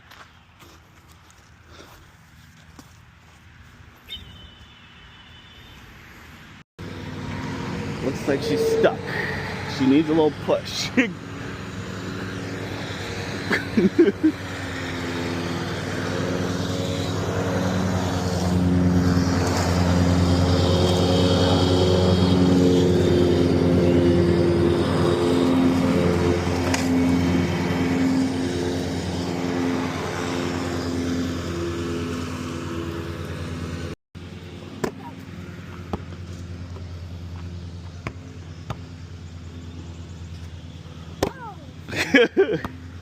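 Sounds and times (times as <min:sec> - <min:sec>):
engine droning: 0:06.8 - 0:43.0.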